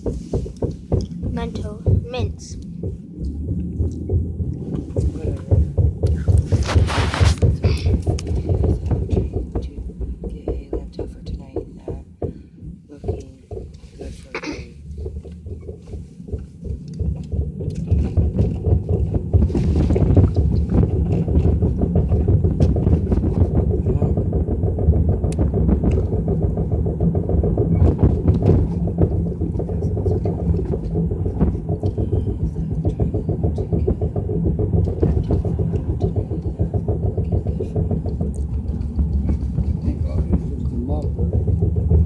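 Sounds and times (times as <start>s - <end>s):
car cabin road rumble: 0.0s - 42.0s.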